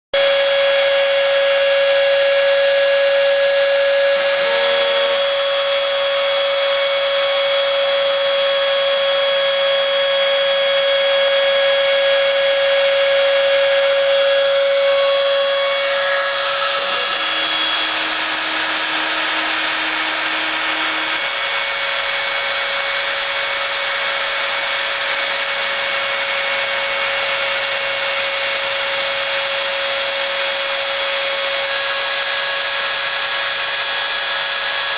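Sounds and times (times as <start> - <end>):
router spindle motor whining: 0.2 - 34.9.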